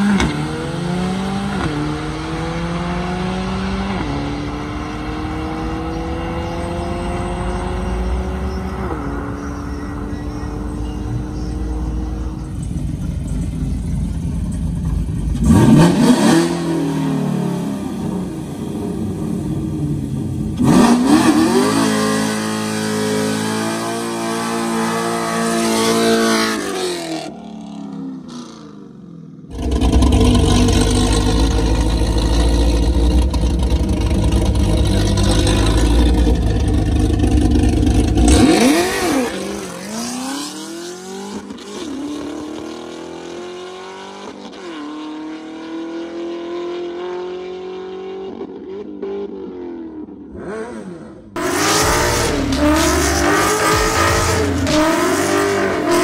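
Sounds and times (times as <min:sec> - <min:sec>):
drag racing engines at full throttle: 0:00.0 - 0:56.0.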